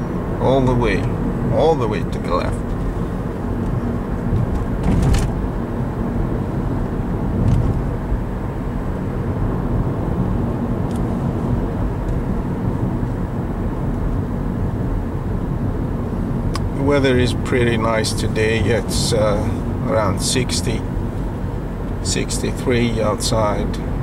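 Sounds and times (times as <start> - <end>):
car cabin road noise: 0.0 - 24.0.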